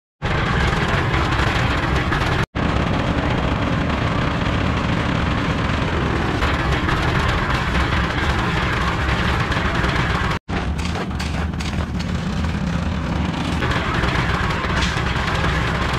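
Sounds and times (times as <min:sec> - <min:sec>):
concrete mixer rumbling: 0:00.2 - 0:15.9.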